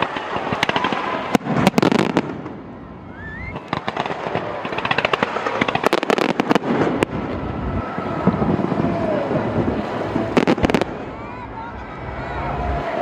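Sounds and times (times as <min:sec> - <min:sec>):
fireworks crackling: 0:00.0 - 0:13.0
fireworks display rumble: 0:00.0 - 0:13.0.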